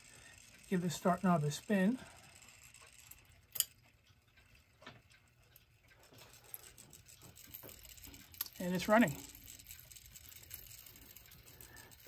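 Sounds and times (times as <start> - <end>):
electric clock humming: 0.0 - 12.0
faint clock movement clicks: 0.0 - 12.0.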